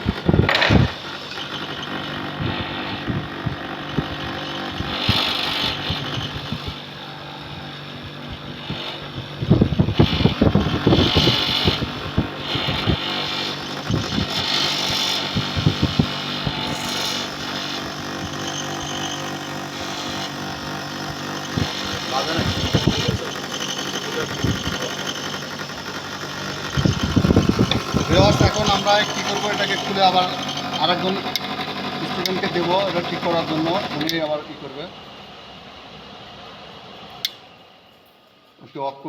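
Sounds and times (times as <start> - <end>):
air conditioner humming: 0.0 - 38.7.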